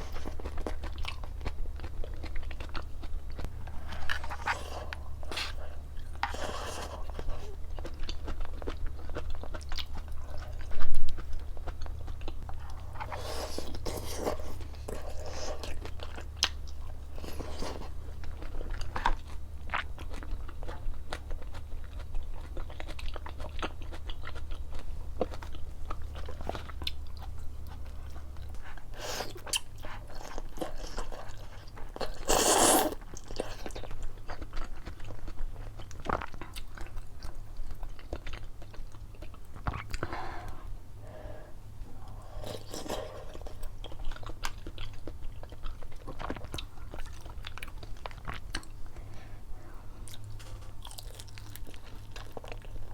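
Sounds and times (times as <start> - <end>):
crunchy chewing: 0.0 - 52.9.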